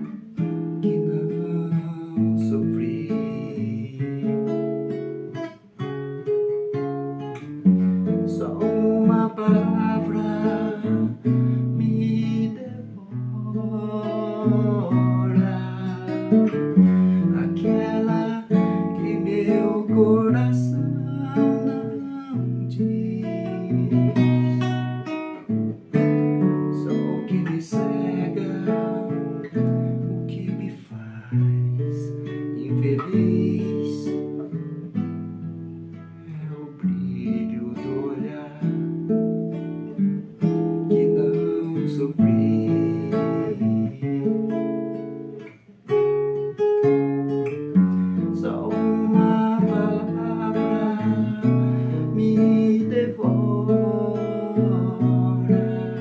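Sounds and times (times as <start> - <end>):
man singing: 0.0 - 5.6, 7.7 - 35.0, 35.9 - 45.3, 46.6 - 56.0
acoustic guitar: 0.0 - 56.0.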